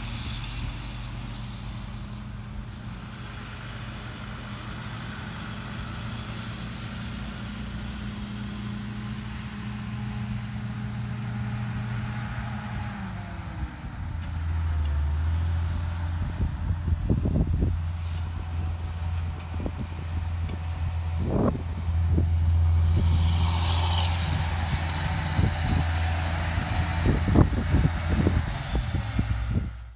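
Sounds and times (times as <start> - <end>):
heavy vehicle engine running: 0.0 - 29.9.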